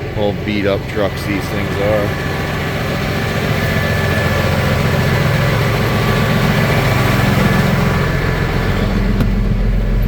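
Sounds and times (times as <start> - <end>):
truck diesel engine idling: 0.0 - 10.0.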